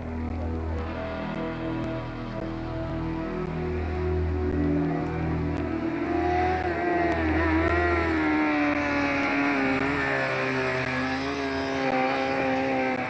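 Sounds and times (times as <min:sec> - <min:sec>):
racing car engine under load: 0:00.0 - 0:13.0.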